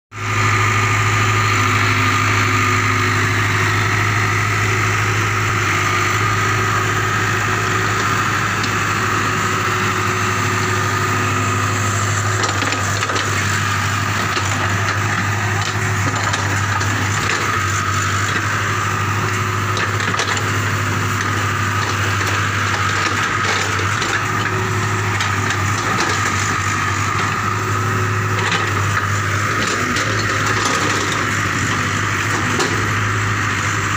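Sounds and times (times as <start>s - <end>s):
excavator diesel engine humming: 0.2s - 33.9s.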